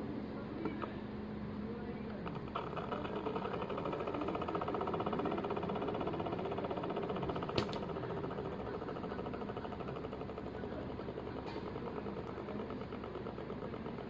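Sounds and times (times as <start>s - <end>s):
blower fan motor rattling: 0.0s - 14.0s.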